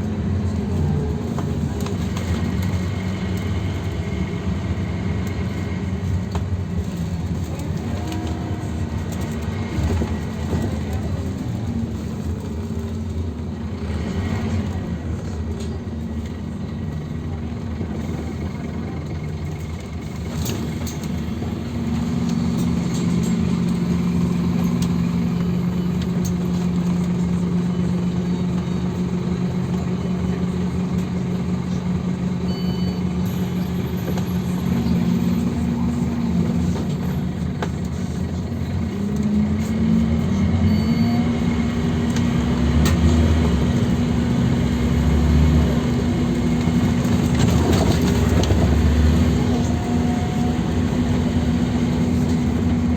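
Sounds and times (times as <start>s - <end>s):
bus engine droning: 0.0s - 52.9s.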